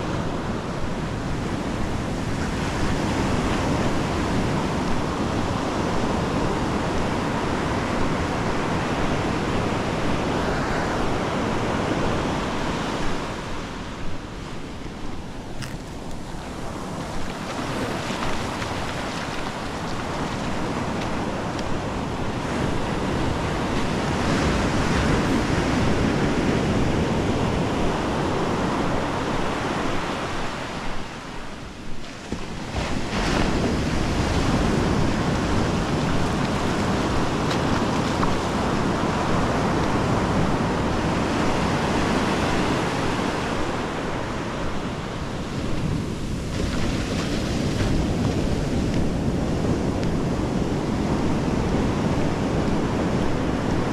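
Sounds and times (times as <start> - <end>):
surf breaking on beach: 0.0 - 53.9.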